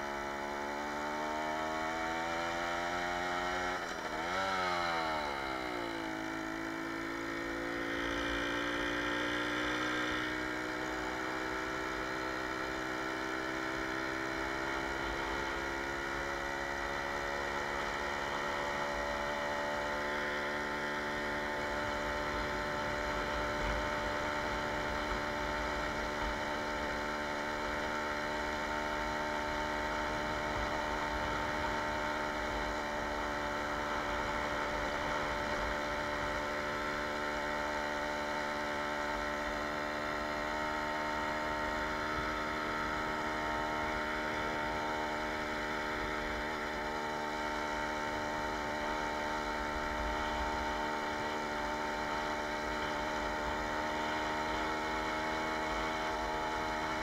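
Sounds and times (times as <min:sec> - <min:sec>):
moped engine cruising: 0:00.0 - 0:57.0.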